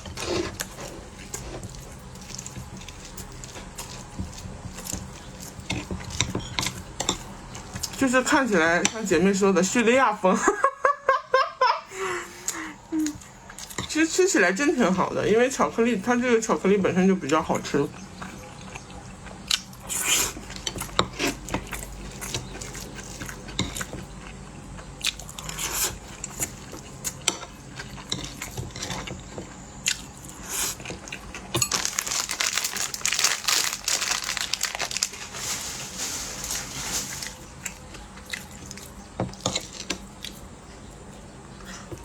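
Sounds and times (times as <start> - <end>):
crunchy chewing: 0.0 - 9.0, 17.3 - 42.0.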